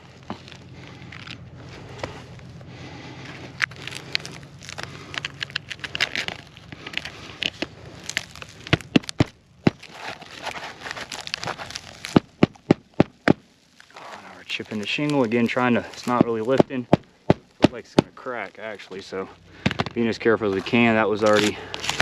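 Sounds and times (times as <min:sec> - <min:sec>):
shingle crackling: 0:00.0 - 0:22.0.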